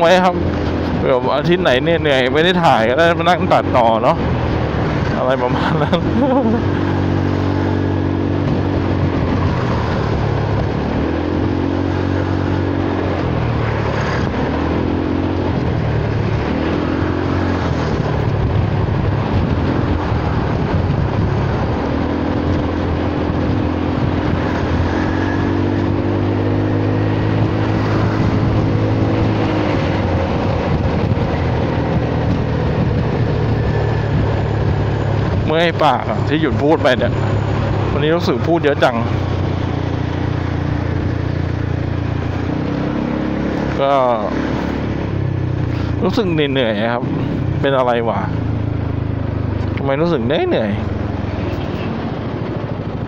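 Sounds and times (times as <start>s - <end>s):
wind and road noise: 0.0s - 53.0s
scooter engine revving: 3.1s - 46.2s.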